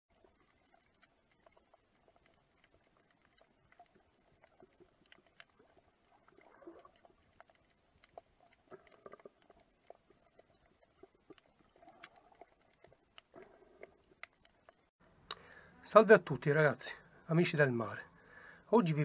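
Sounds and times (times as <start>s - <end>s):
underwater clicks and crackles: 0.1s - 15.4s.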